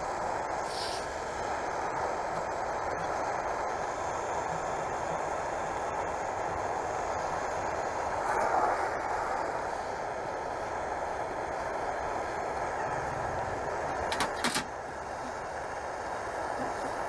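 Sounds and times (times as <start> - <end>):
gas burner flame hissing: 0.0 - 17.0.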